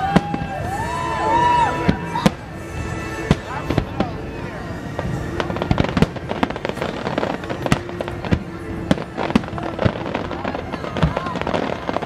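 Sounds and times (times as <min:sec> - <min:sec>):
firework bangs: 0:00.0 - 0:12.0
firework crackle: 0:00.0 - 0:12.0.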